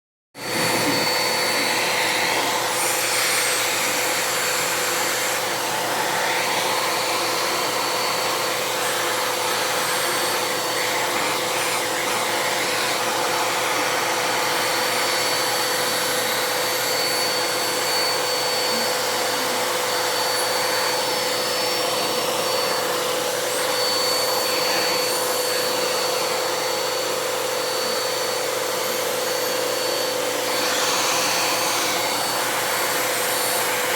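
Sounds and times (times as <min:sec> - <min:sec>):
vacuum cleaner running: 0:00.4 - 0:33.9.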